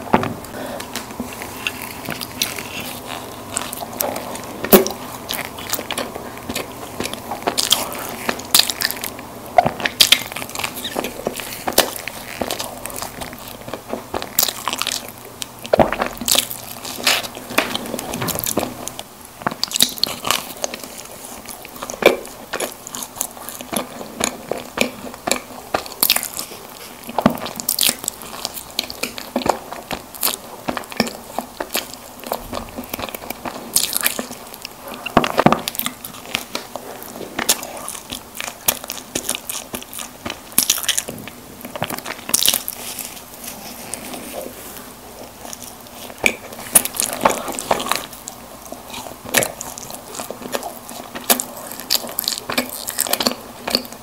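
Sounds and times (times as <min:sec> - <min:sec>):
biting and chewing snack: 0:00.3 - 0:54.0.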